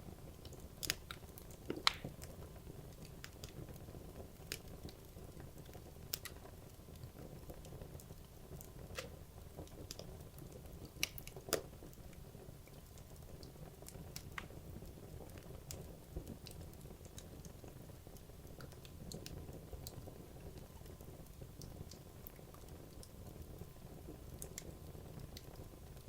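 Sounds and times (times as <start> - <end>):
low rumble of fire: 0.0 - 26.0
wood fire crackling and popping: 0.0 - 26.0.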